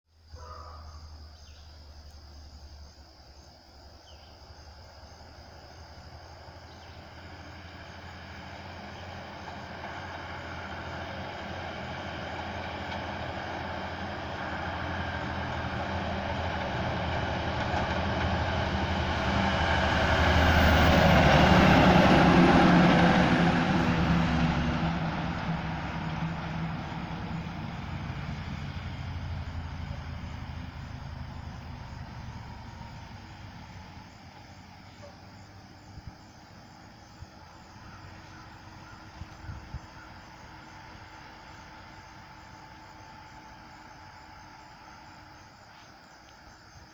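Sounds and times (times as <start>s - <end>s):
dump truck driving past: 0.2s - 46.9s.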